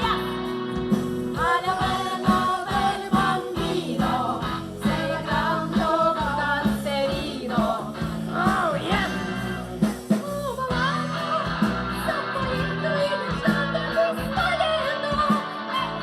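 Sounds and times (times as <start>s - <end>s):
band playing rock and roll: 0.0s - 16.0s.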